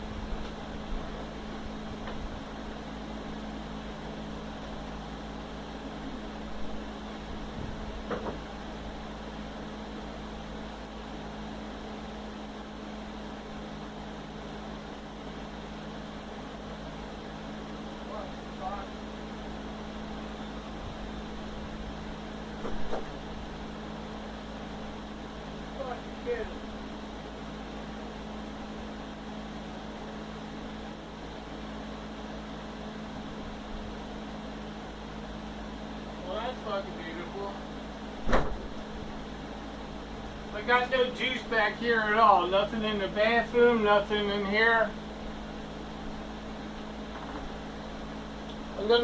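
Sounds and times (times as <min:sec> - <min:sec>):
steady mechanical hum: 0:00.0 - 0:49.0.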